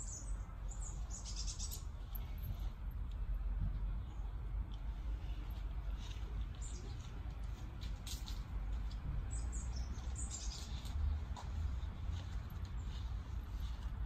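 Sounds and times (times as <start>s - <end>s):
small birds chirping: 0.0s - 2.7s, 3.8s - 14.0s.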